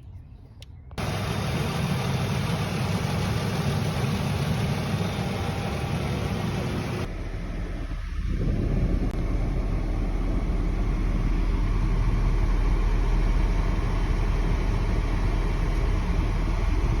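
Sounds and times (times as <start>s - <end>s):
car engine running: 1.0s - 17.0s.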